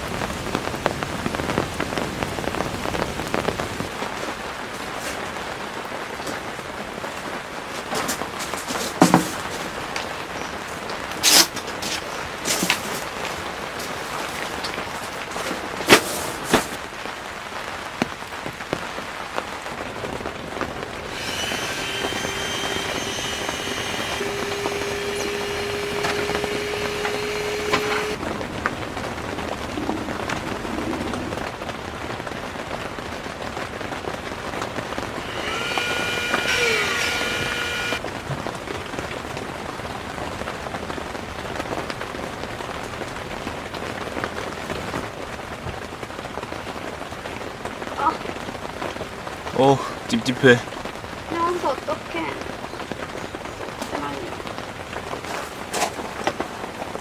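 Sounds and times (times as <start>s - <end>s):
heavy rain on tent fabric: 0.0s - 57.0s.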